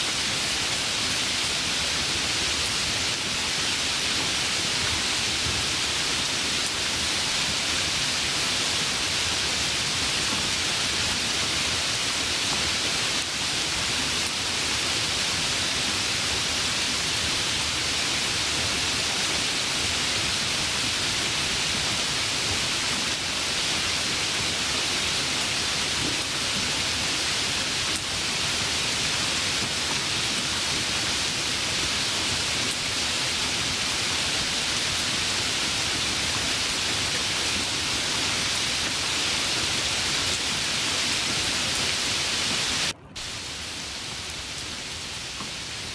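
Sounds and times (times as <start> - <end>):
flowing river water: 0.0 - 45.9
steady rain hissing: 0.0 - 45.9.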